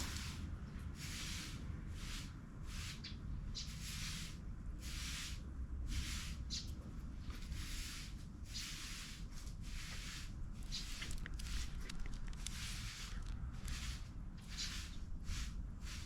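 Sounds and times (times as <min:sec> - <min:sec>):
broom sweeping: 0:00.0 - 0:06.6, 0:07.3 - 0:16.0.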